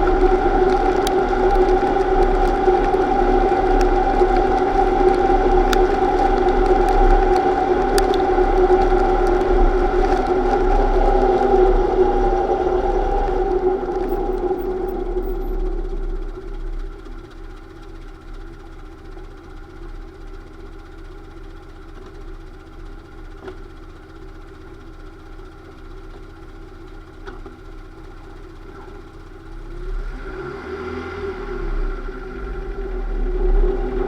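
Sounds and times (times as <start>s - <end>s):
drivetrain whine: 0.0s - 34.0s.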